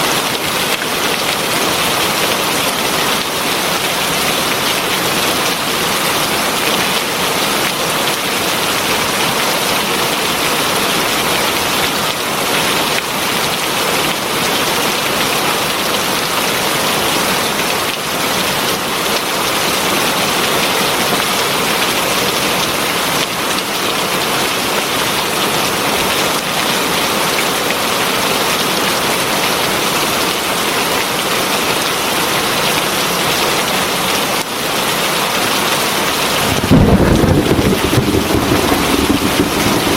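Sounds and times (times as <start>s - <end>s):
heavy rain falling: 0.0s - 30.0s, 35.8s - 39.9s.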